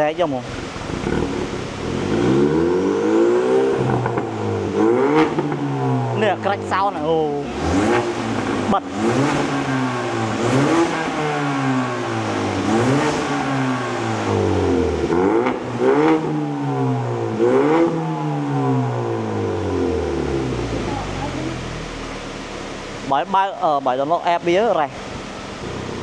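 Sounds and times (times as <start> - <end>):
car engine revving: 0.4 - 26.0.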